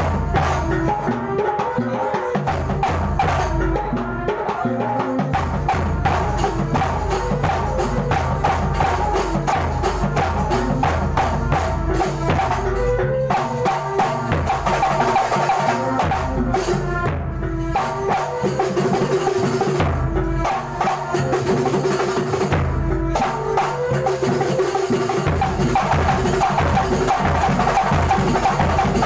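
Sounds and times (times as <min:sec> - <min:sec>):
frame drums and percussion: 0:00.0 - 0:29.0.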